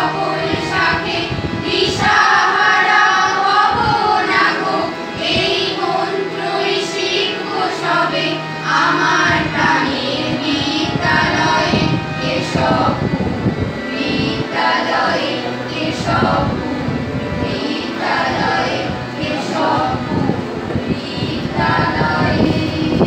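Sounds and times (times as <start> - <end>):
children singing: 0.0 - 23.0
musical accompaniment: 0.0 - 23.0.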